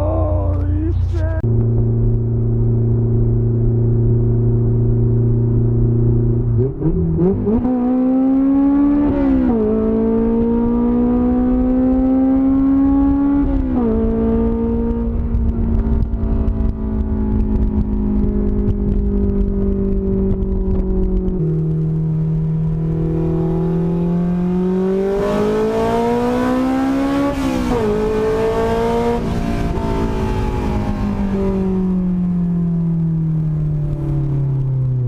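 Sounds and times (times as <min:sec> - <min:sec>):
unmuffled car engine revving: 0:00.0 - 0:35.0.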